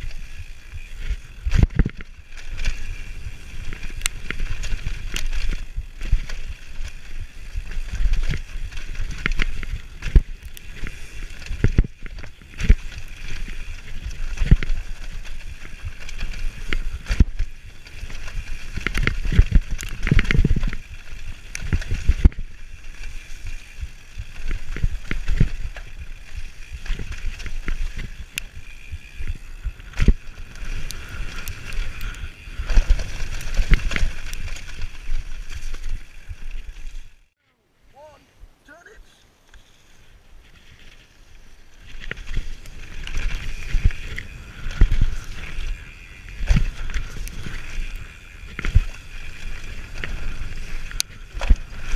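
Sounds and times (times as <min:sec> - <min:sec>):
bike knocking and rattling: 0:00.0 - 0:37.3, 0:40.4 - 0:51.9
tyres on dirt trail: 0:00.0 - 0:51.9.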